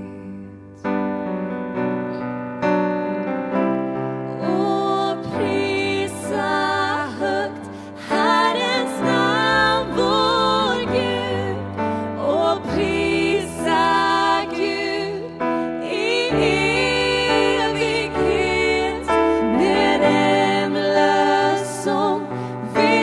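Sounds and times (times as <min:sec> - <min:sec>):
person singing with vibrato: 0:04.3 - 0:23.0.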